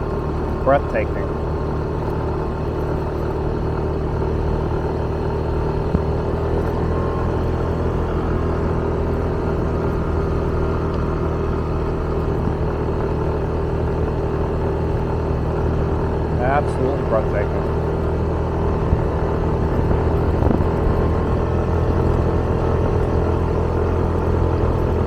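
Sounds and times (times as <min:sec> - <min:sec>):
motorbike engine running: 0:00.0 - 0:25.0.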